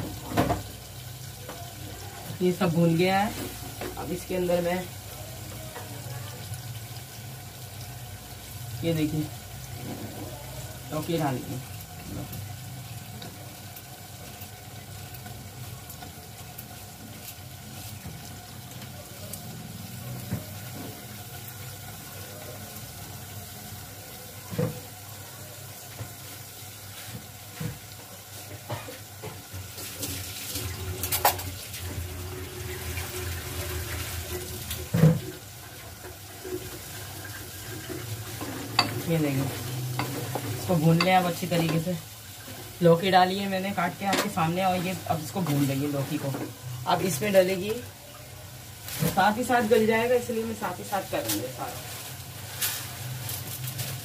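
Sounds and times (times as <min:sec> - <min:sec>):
food hissing in pot: 0:00.0 - 0:54.0.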